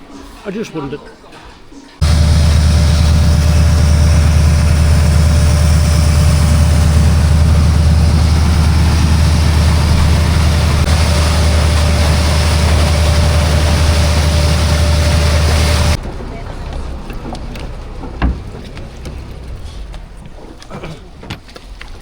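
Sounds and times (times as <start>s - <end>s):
wind and water rushing: 2.0s - 20.5s
motorboat engine drone: 2.0s - 21.3s.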